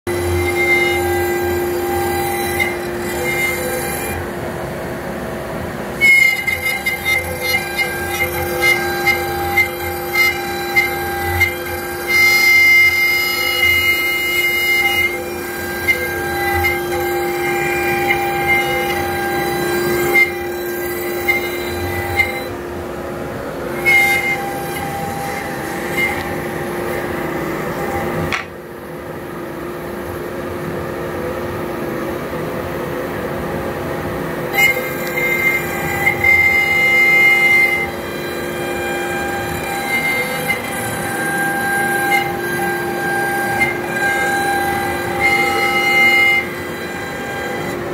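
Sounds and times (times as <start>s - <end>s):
dust collector running: 0.1s - 47.9s
router spindle and motors whining: 0.1s - 47.9s.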